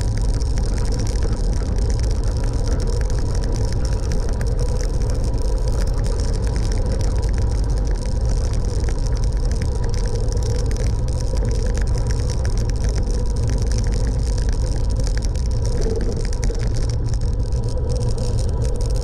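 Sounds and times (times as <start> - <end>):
wind rumble: 0.0 - 19.0.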